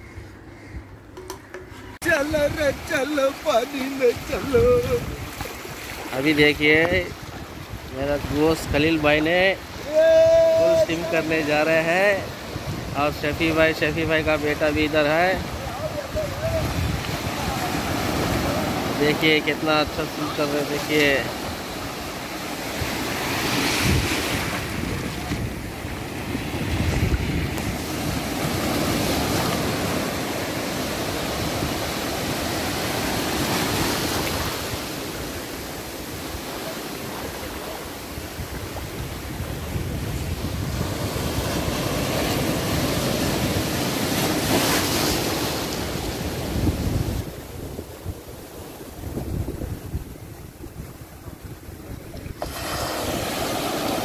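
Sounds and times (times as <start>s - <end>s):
sea surf breaking on a beach: 0.0s - 54.0s.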